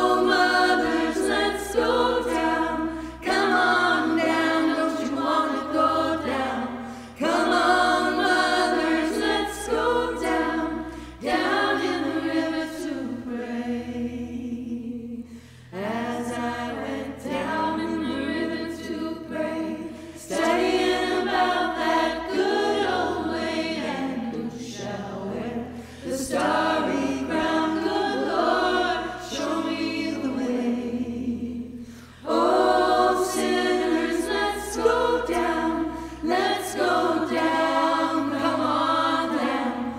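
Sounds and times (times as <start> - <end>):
women singing a cappella: 0.0 - 39.9.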